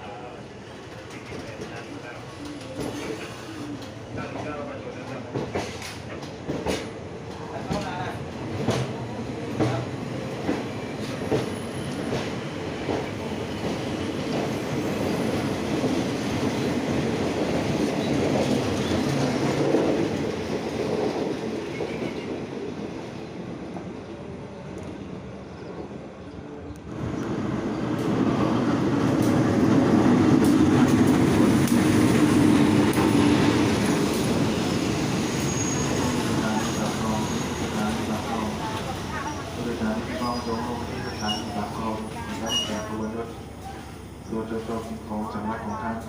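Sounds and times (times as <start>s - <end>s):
train running on rails: 0.0s - 46.0s.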